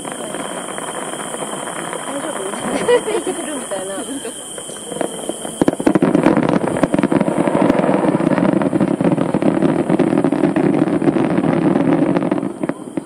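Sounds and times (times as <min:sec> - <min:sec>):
fireworks crackling bursts: 0:00.0 - 0:13.0
steady rumble: 0:02.0 - 0:12.9.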